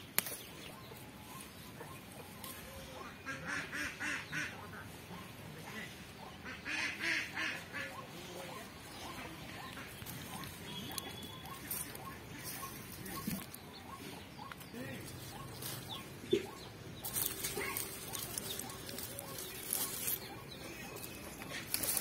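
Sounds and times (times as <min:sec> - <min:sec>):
ducks quacking: 0:02.6 - 0:22.0.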